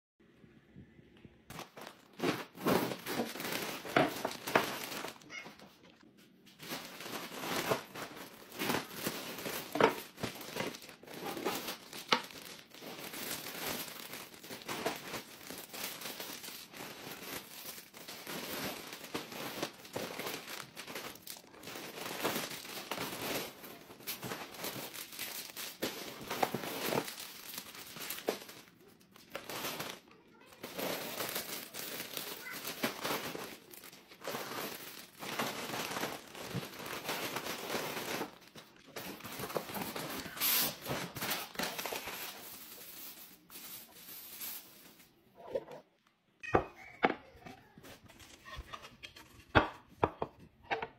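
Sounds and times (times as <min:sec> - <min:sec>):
plastic bags crinkling: 0:01.5 - 0:45.2.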